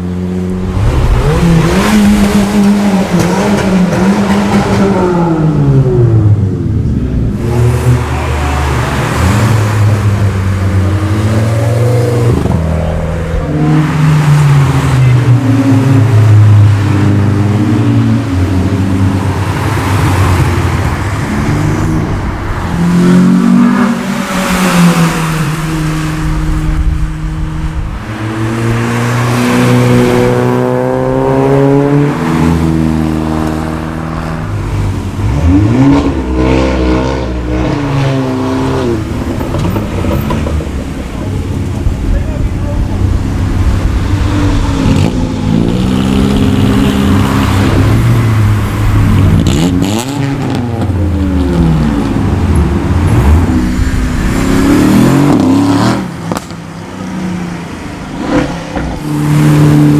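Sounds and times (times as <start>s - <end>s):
cars driving past revving: 0.0s - 59.9s.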